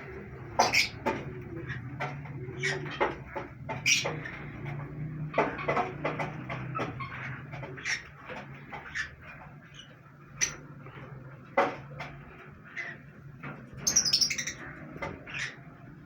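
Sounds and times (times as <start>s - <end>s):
cockatiels chirping: 0.0s - 11.0s, 12.3s - 16.0s.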